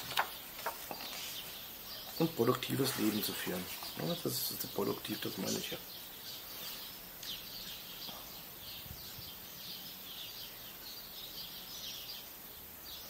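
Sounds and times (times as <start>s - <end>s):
faint background hiss: 0.0s - 13.0s
small birds chirping: 0.0s - 13.0s.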